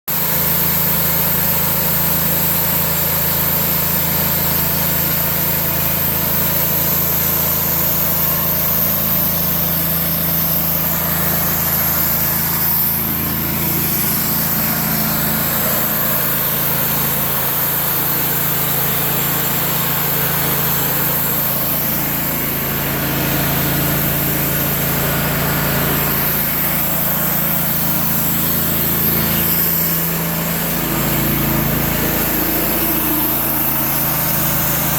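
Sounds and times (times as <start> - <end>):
sawmill engine running: 0.1 - 34.9.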